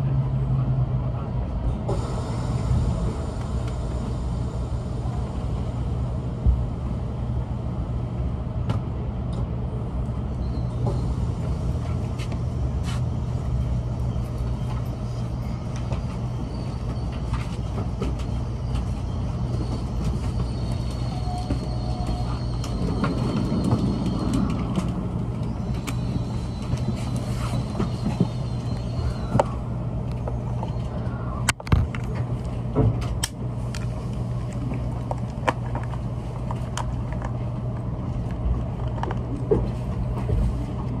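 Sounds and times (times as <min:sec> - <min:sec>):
train interior hum: 0:00.0 - 0:41.0.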